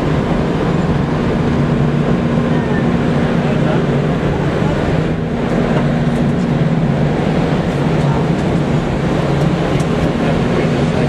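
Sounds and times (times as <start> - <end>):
constant low hum: 0.0 - 11.0
moving train rumbling: 0.0 - 11.0.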